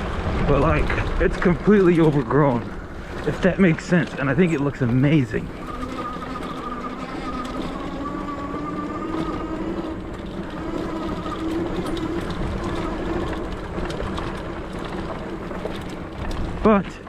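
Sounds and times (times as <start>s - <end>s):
electric bike motor whining: 0.0s - 16.9s.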